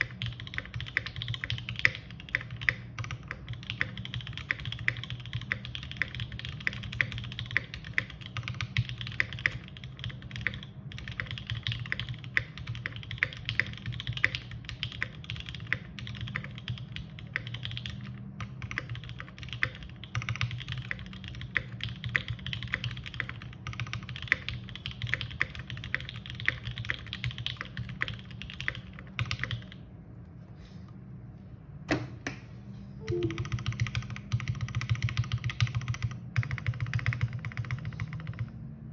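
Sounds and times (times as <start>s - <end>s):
mechanical keyboard typing: 0.0s - 29.8s, 33.0s - 38.6s.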